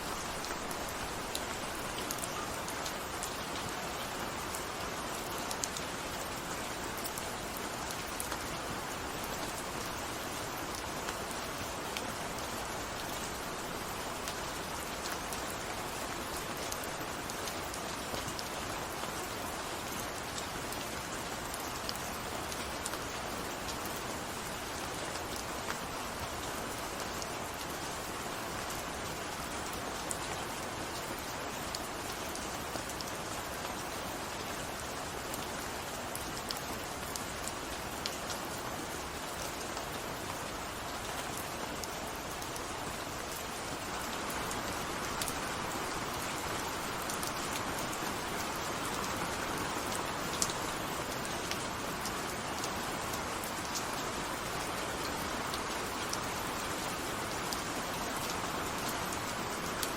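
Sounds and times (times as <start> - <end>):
raindrops ticking on a surface: 0.0 - 59.9
steady rain hiss: 0.0 - 59.9.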